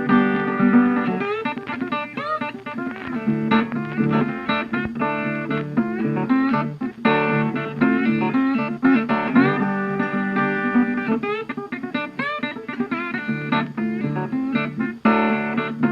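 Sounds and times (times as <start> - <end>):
plucked guitar music: 0.0 - 15.9.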